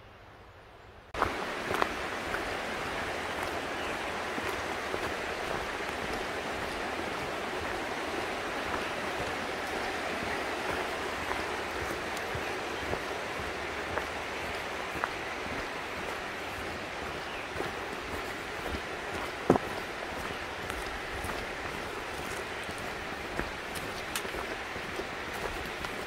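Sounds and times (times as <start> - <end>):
river rapids rushing: 1.2 - 26.0.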